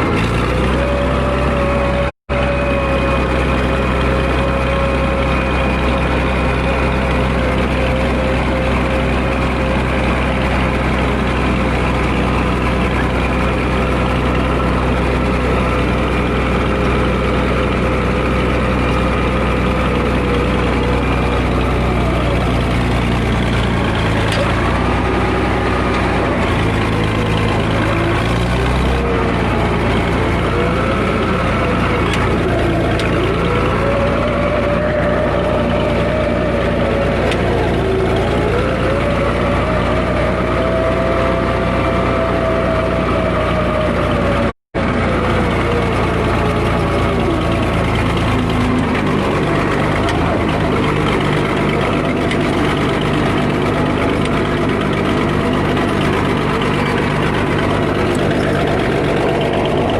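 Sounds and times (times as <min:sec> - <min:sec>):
diesel engine running: 0:00.0 - 0:59.9
whining tone: 0:00.0 - 0:59.9.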